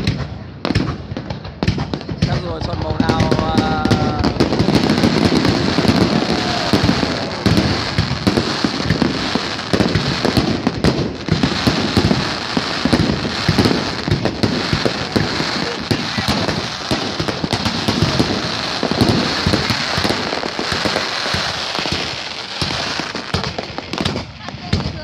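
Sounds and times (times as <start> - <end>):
fireworks cracking and banging: 0.0 - 25.0.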